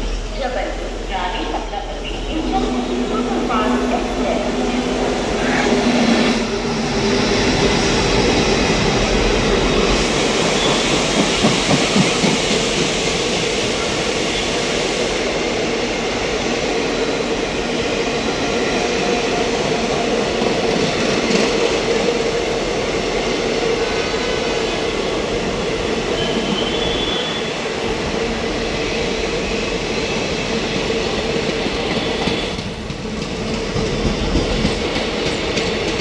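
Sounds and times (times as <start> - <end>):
train running on rails: 0.0 - 36.0.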